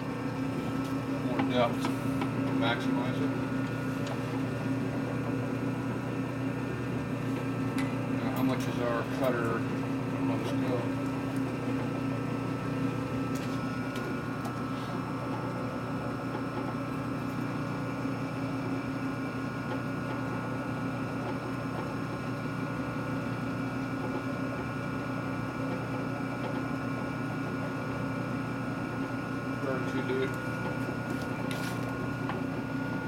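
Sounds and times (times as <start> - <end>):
metalworking machine tool whining: 0.0 - 33.0.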